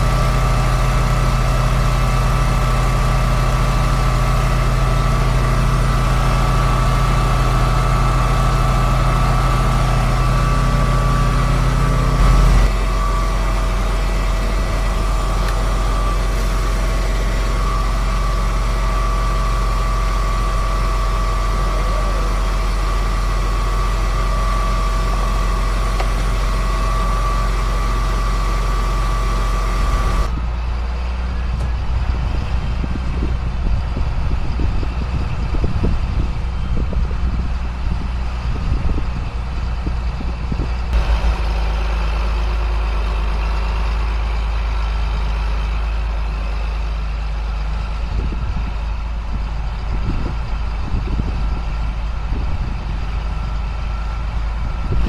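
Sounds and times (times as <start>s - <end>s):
uneven gusty rumble: 0.0s - 28.2s, 29.1s - 55.0s
high whine: 0.0s - 44.9s
low engine drone: 0.0s - 55.0s.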